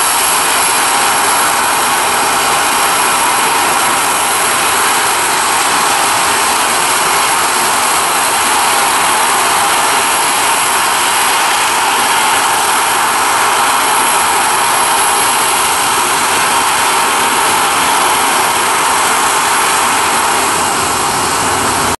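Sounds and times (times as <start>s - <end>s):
jet engines at takeoff: 0.0s - 21.9s.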